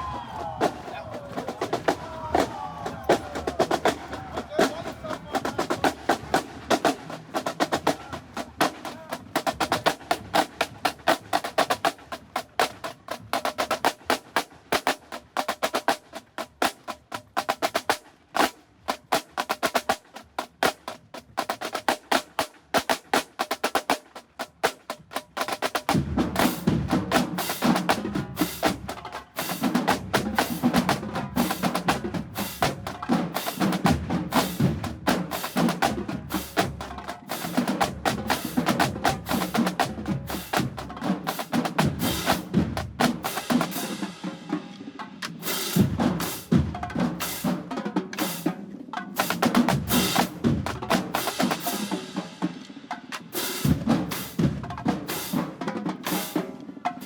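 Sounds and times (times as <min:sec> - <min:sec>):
deeper drums: 0:00.0 - 0:57.0
snare drum strokes and rim clicks: 0:00.0 - 0:57.0.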